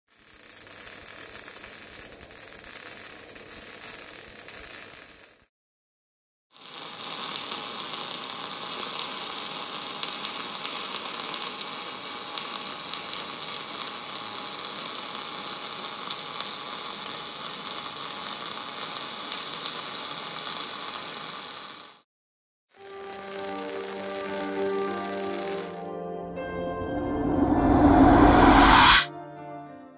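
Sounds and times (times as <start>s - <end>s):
welding arc crackling: 0.1s - 5.5s, 6.6s - 22.0s, 22.7s - 25.9s.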